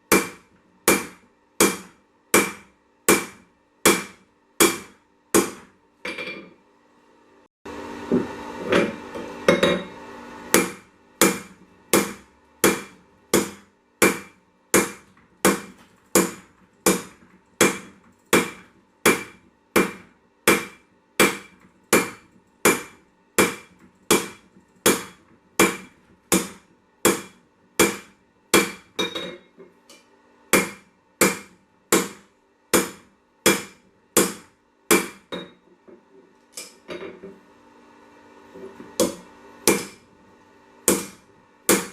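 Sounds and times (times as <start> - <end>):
hammer striking steel on anvil: 0.1 - 6.5, 8.7 - 29.5, 30.5 - 35.6, 39.0 - 40.0, 40.9 - 41.9.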